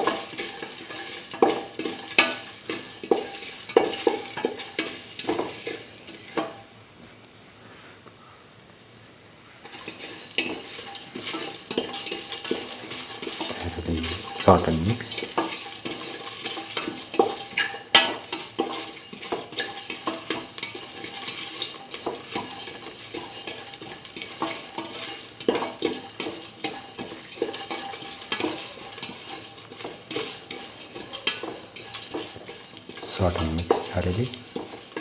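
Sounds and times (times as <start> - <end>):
utensil scraping metal pan: 0.0 - 6.6, 9.6 - 35.0
spices frying in oil: 0.0 - 7.5, 8.7 - 35.0.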